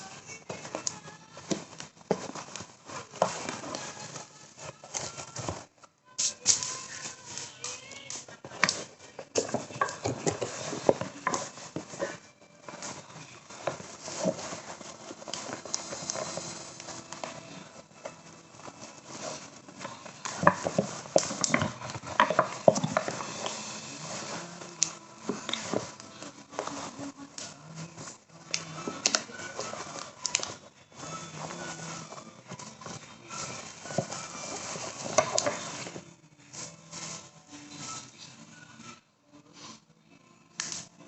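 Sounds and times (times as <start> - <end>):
objects being handled: 0.0 - 38.5
rustling: 0.0 - 38.9.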